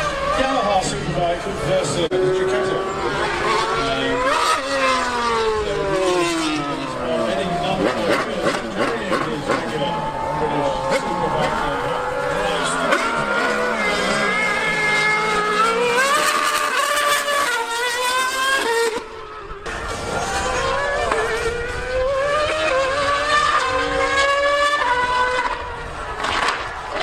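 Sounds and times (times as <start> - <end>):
race engines revving through gears: 0.0 - 27.0.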